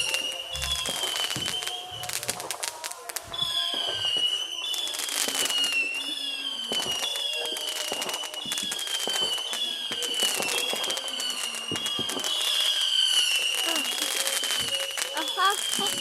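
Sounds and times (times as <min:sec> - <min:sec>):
firework whistles: 0:00.0 - 0:16.0
fireworks crackling and popping: 0:00.0 - 0:16.0.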